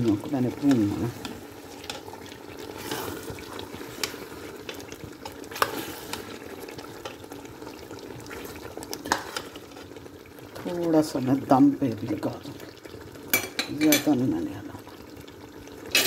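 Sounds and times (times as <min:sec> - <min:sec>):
curry bubbling in a pot: 0:00.0 - 0:16.0.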